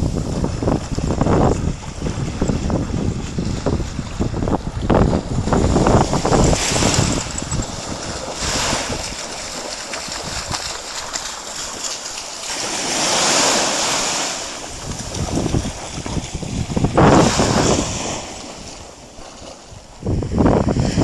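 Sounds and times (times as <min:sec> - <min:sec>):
waves washing on sandy shore: 0:00.0 - 0:21.0
wind buffeting microphone: 0:00.0 - 0:21.0
dog splashing in shallows: 0:00.1 - 0:19.9.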